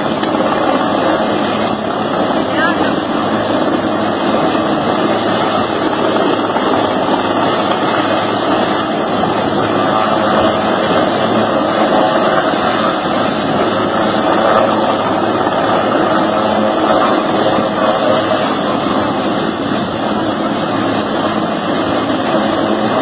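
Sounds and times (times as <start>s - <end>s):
helicopter running: 0.0s - 23.0s.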